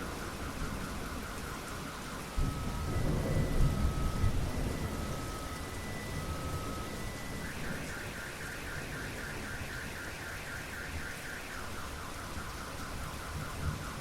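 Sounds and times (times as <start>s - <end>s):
car alarm warbling: 0.0s - 14.0s
steady rain: 0.0s - 14.0s.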